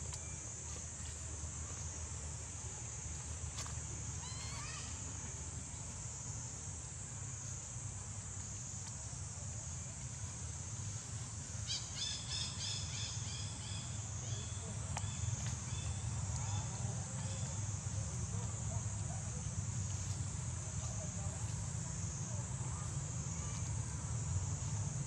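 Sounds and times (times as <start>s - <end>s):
high insect drone: 0.0s - 25.0s.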